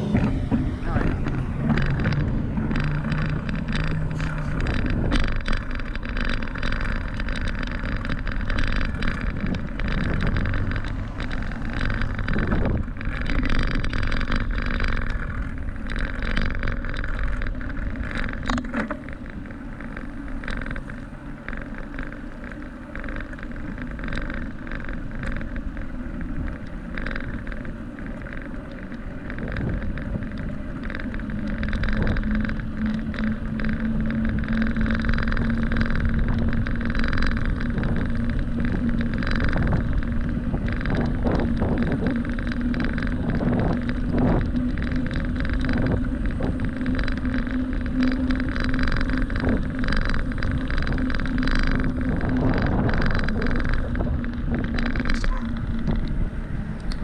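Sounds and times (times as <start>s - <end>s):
bicycle tyres on asphalt: 0.0s - 57.0s
small clicks and rattles: 0.0s - 57.0s
wind rushing over microphone: 0.0s - 57.0s.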